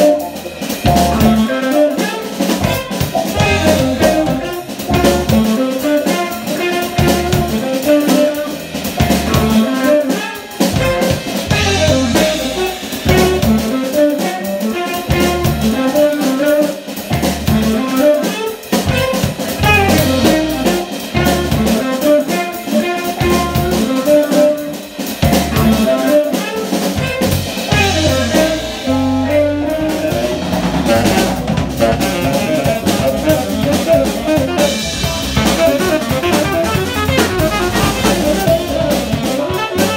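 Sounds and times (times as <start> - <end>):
drum kit: 0.0 - 39.9
electric guitar: 0.0 - 39.9
saxophone: 0.0 - 39.9
walking electric bass: 0.0 - 39.9.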